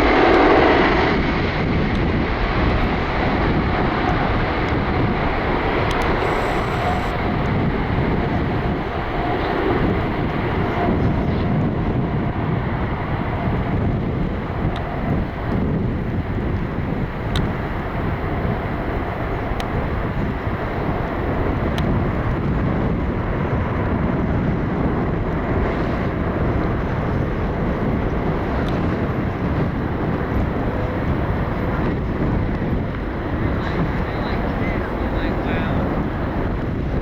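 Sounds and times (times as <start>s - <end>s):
jet engines rumbling: 0.0s - 37.0s
wind buffeting microphone: 0.0s - 37.0s.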